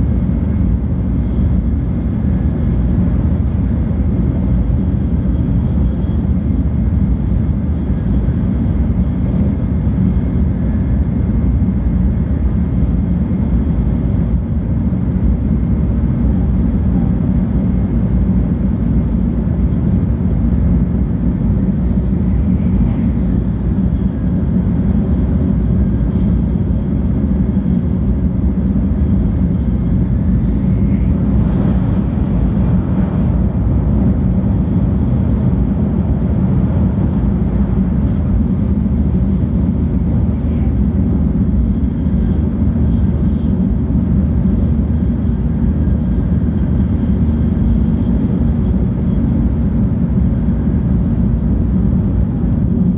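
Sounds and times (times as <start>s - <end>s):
train interior low rumble: 0.0s - 52.9s.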